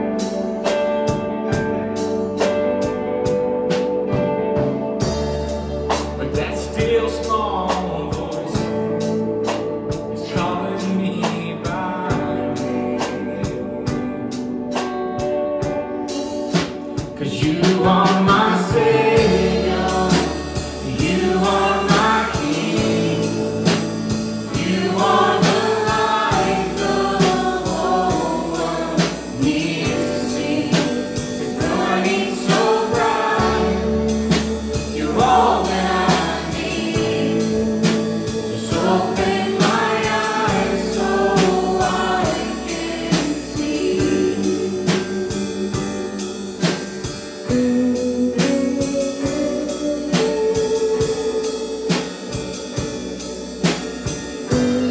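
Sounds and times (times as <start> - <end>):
worship band playing: 0.0 - 54.9.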